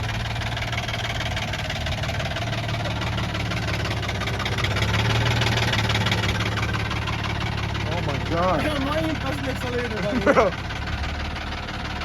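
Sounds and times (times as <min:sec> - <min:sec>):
car engine idling with rod knock: 0:00.0 - 0:12.0.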